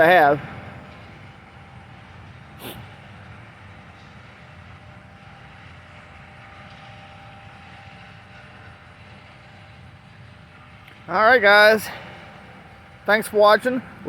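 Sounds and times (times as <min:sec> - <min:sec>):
combine harvester engine rumble: 0:00.0 - 0:14.0.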